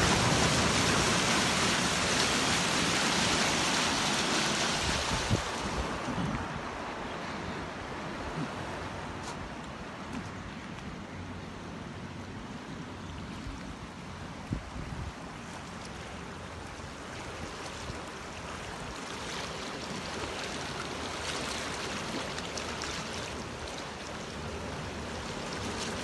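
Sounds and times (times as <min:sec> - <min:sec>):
floodwater rushing: 0:00.0 - 0:10.2, 0:15.1 - 0:26.0.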